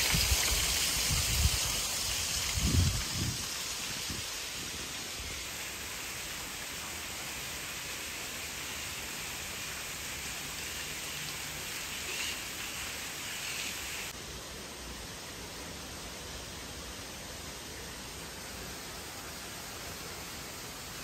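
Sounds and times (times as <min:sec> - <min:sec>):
outdoor ambient hiss: 0:00.0 - 0:21.0.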